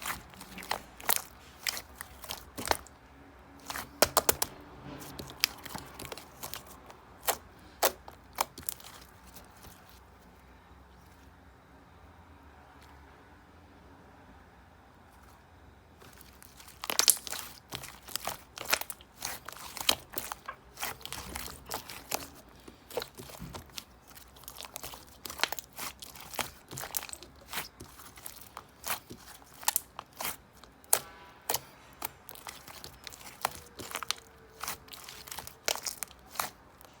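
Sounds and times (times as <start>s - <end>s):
crisp crunching and crackling: 0.0s - 3.0s, 3.6s - 11.3s, 16.0s - 37.0s.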